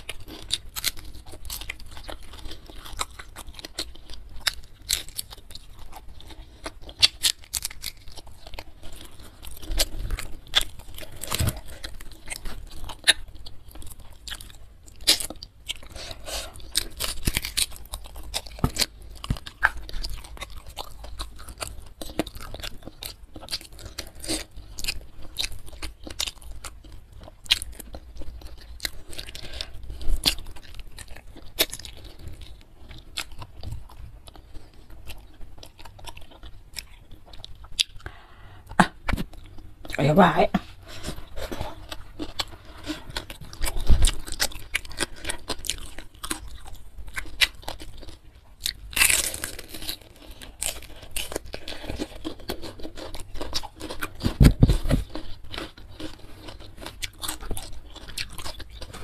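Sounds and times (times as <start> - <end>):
crunchy chewing: 0.0 - 40.0, 40.6 - 59.0.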